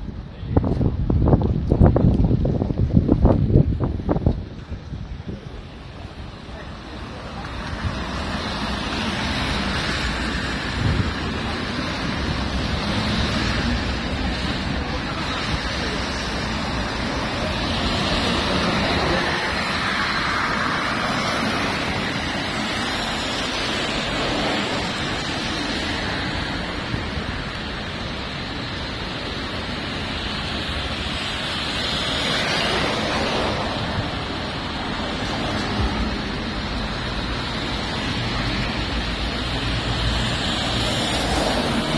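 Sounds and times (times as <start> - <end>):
wind buffeting microphone: 0.0 - 41.9
tyres hissing on wet pavement: 1.2 - 41.9.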